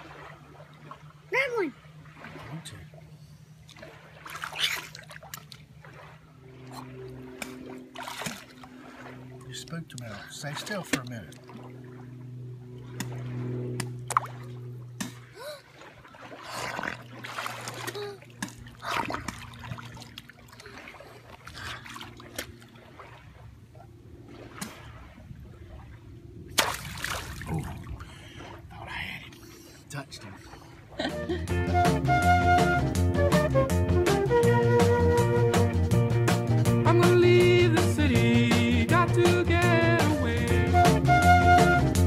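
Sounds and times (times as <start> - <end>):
water splashing and sloshing: 0.0 - 41.5
low hum: 0.0 - 42.0.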